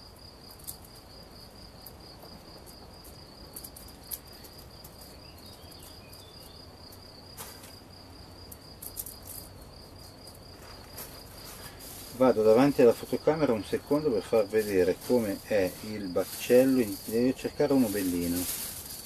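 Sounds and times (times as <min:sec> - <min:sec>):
cricket trilling: 0:00.0 - 0:19.0
dry seed pods crackling: 0:00.3 - 0:19.0.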